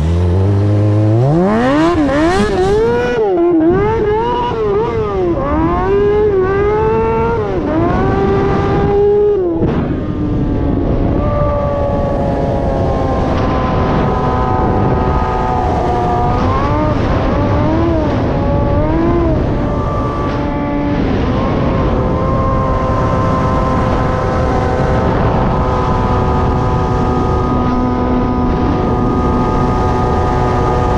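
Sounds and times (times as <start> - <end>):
engine revving under load: 0.0 - 30.9
heavy low rumble: 0.0 - 30.9.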